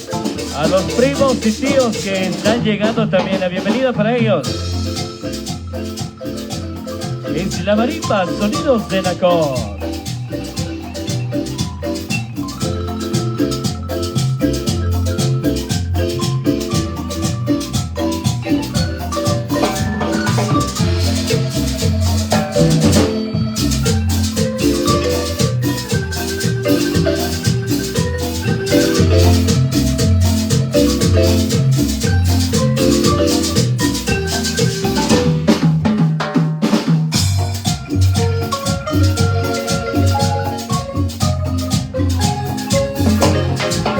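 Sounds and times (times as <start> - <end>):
shaker keeping time: 0.0 - 3.2, 4.3 - 35.6, 37.2 - 43.9
bass beat: 0.0 - 36.0, 37.1 - 43.9
marimba band playing: 0.0 - 43.9.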